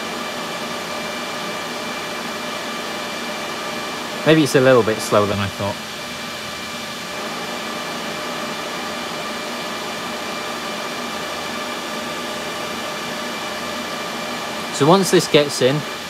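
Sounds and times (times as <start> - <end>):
server cooling fans rushing: 0.0 - 16.0.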